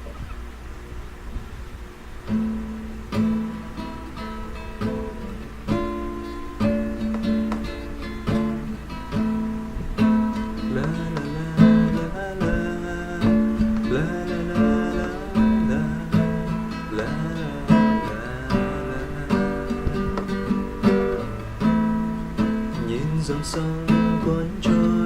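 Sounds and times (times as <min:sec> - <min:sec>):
acoustic guitar strumming and plucking: 0:02.1 - 0:25.0.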